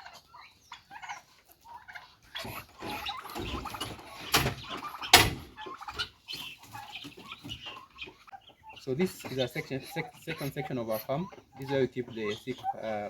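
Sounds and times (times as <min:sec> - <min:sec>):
poultry calling: 0:00.0 - 0:13.0.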